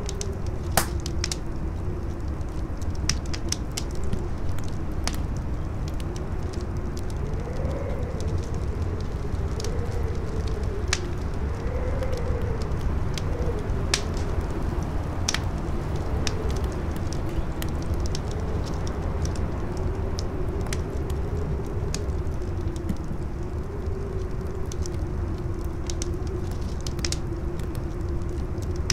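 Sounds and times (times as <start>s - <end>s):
campfire crackling and popping: 0.0s - 28.9s
low rumble: 0.0s - 28.9s
wind howling: 0.0s - 28.9s.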